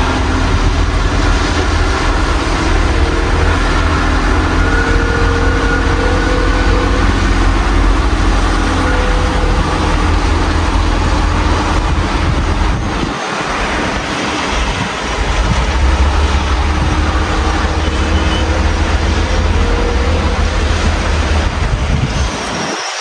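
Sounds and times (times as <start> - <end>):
car engines passing: 0.0 - 22.7
city traffic rumble: 0.0 - 23.0
steady rain falling: 0.0 - 23.0.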